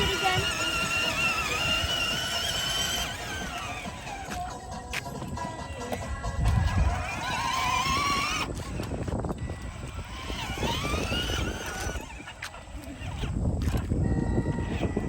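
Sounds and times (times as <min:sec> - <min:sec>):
electric motor whine: 0:00.0 - 0:15.0
toy truck wheels rumbling: 0:00.0 - 0:15.0.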